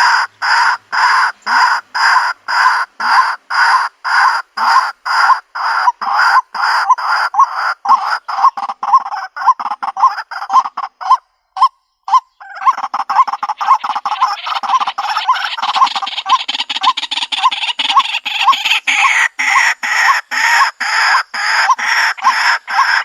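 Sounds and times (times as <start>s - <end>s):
waterhen calling: 0.0s - 23.0s.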